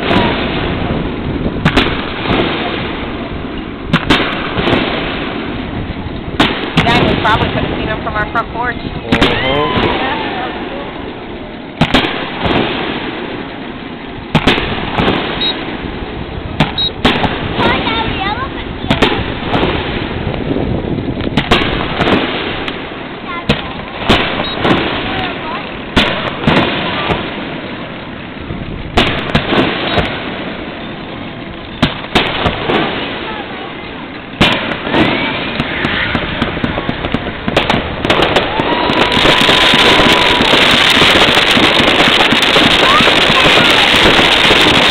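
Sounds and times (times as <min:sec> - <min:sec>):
continuous rumble: 0:00.0 - 0:44.9
fireworks bangs: 0:00.0 - 0:44.9.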